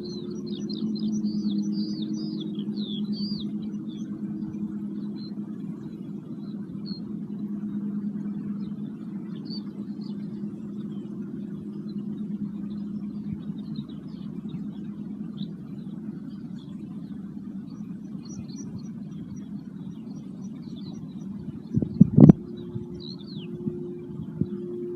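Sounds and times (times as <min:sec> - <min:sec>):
small birds chirping: 0:00.0 - 0:05.6, 0:08.6 - 0:23.8
singing bowls humming: 0:00.0 - 0:24.9.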